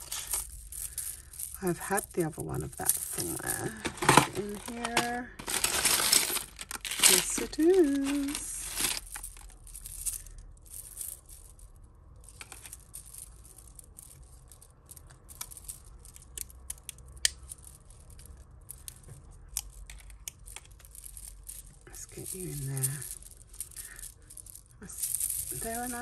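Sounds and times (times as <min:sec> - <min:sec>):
clicks and chinks of beads: 0:00.0 - 0:26.0
low steady hum: 0:00.0 - 0:26.0
rustling: 0:00.0 - 0:26.0.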